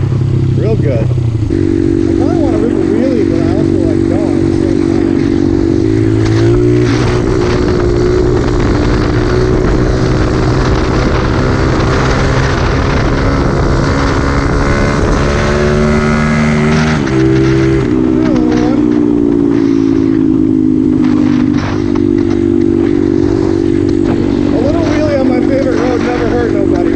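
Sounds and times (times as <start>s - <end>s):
small motorbike engine: 0.0s - 26.9s
wind noise on microphone: 4.4s - 26.9s.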